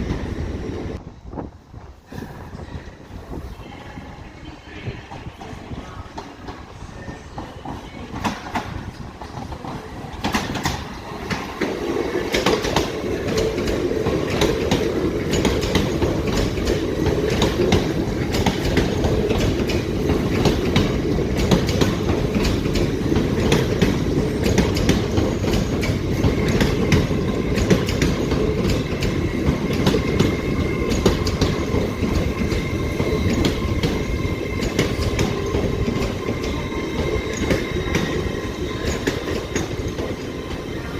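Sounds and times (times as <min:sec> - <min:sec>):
train wheels clicking over rail joints: 0:07.4 - 0:40.9.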